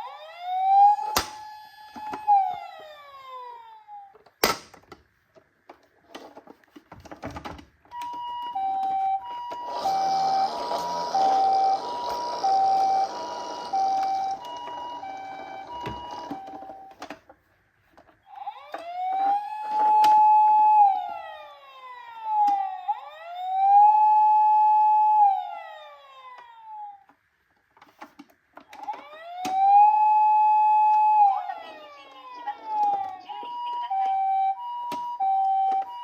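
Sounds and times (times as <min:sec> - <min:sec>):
toy two-tone siren: 0:00.0 - 0:04.1, 0:07.9 - 0:17.0, 0:18.2 - 0:27.1, 0:28.8 - 0:36.0
toy electronic wail siren: 0:00.0 - 0:04.2, 0:07.9 - 0:16.9, 0:18.2 - 0:27.1, 0:28.8 - 0:36.0.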